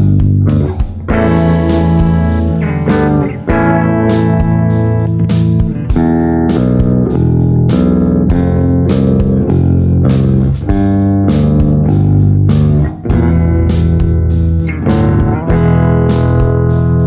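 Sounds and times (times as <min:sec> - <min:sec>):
clean electric guitar: 0:00.0 - 0:17.0.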